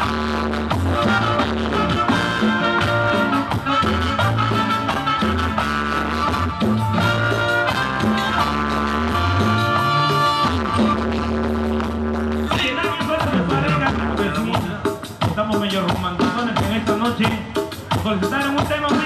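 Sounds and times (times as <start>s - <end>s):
bass line: 0.0s - 19.0s
drum kit beat: 0.0s - 19.0s
live band playing: 0.0s - 19.0s.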